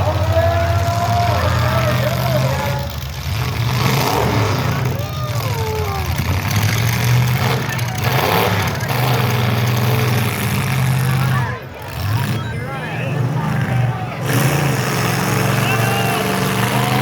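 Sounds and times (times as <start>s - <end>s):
car engines running: 0.0s - 17.0s
faint voices: 0.0s - 17.0s.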